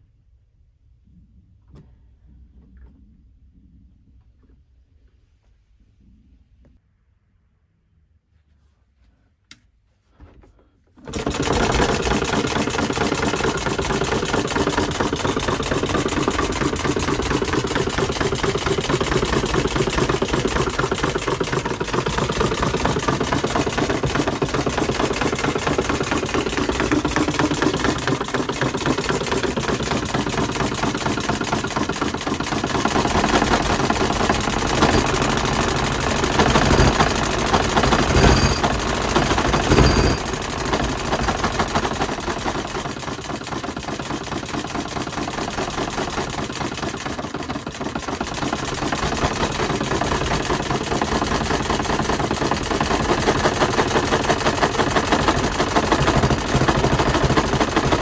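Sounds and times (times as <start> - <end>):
model engine running fast: 11.1 - 58.0.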